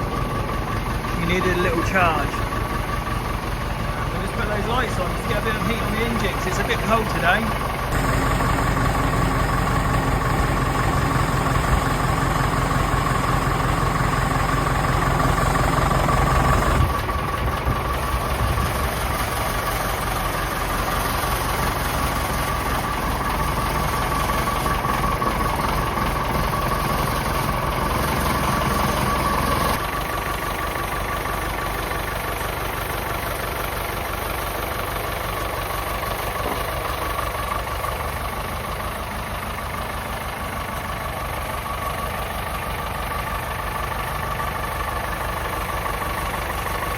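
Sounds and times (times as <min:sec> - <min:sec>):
tractor engine idling: 0:00.0 - 0:46.9.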